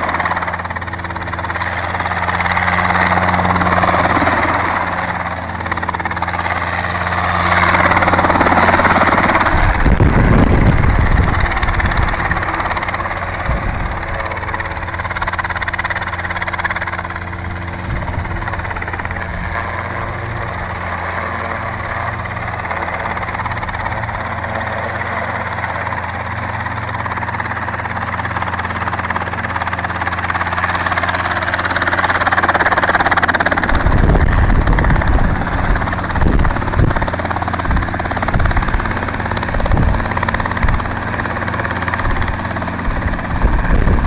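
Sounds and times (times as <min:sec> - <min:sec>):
helicopter rotor and engine: 0:00.0 - 0:44.0
rotor downwash buffeting microphone: 0:01.0 - 0:25.3, 0:32.4 - 0:44.0.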